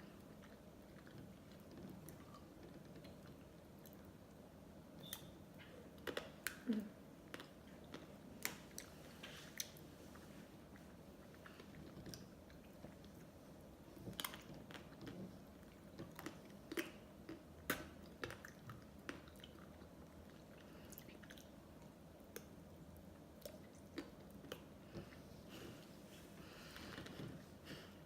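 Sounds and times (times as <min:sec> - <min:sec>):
wet chewing mouth sounds: 0:00.0 - 0:04.3, 0:06.0 - 0:28.0.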